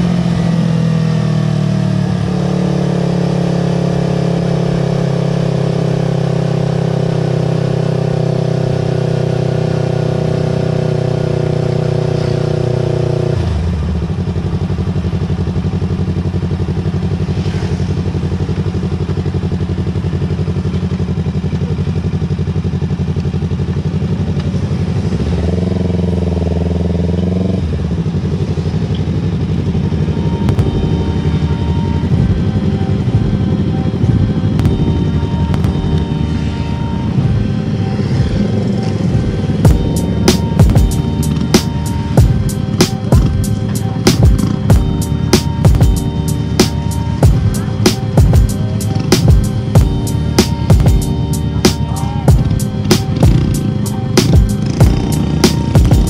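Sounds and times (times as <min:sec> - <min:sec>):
engine revving: 0:00.0 - 0:14.5, 0:24.6 - 0:56.0
motorcycle engine running: 0:00.0 - 0:56.0.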